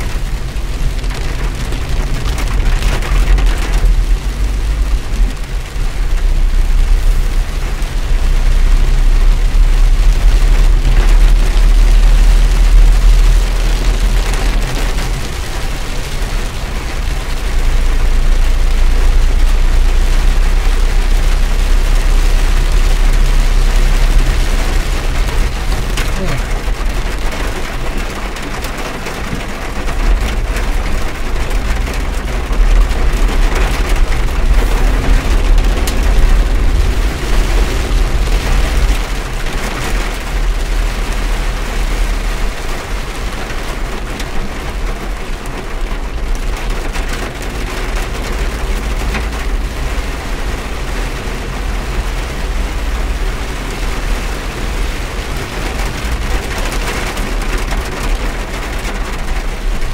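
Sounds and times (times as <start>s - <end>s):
heavy rain on car windshield: 0.0s - 59.9s
low car rumble: 0.0s - 59.9s.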